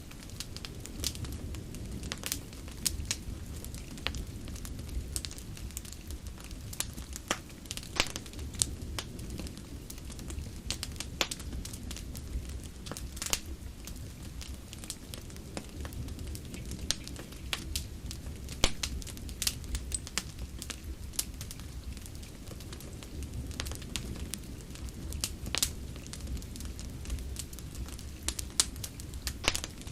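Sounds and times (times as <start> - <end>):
fire pops and snaps: 0.0 - 29.9
wood fire crackling: 0.0 - 29.9.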